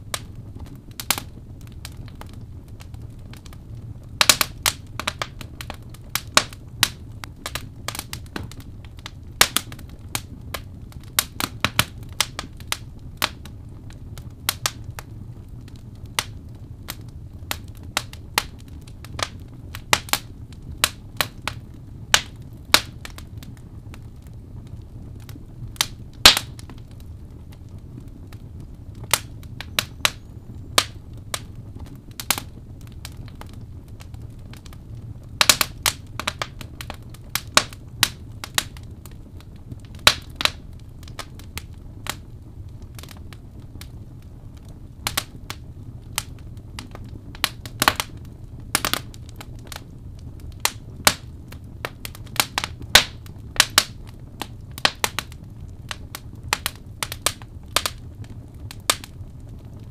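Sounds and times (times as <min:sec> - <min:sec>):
fire crackling pops and snaps: 0:00.0 - 0:59.9
low rumble of flames: 0:00.0 - 0:59.9.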